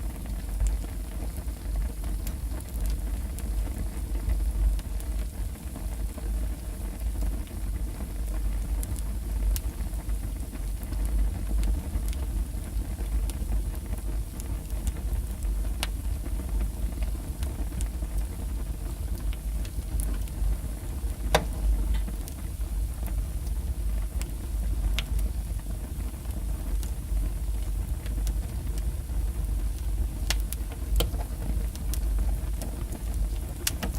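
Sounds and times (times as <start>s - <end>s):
burning logs crackling and popping: 0.0s - 33.9s
low rumble of flames: 0.0s - 33.9s.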